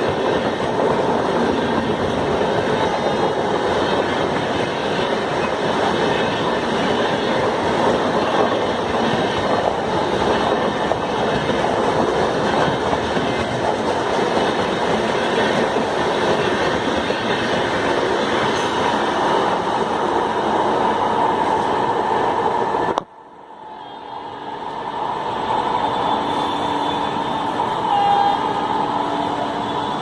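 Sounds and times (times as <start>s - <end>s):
train wheels rolling on track: 0.0s - 30.0s.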